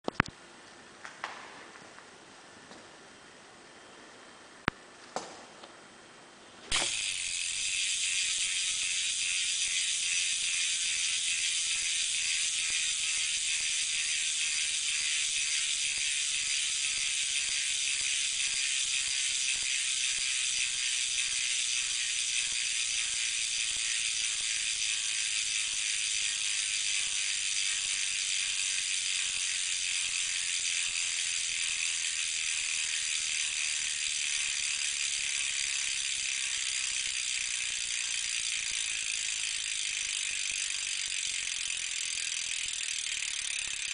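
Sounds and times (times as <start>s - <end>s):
bicycle freehub ratchet clicking: 6.7s - 43.9s.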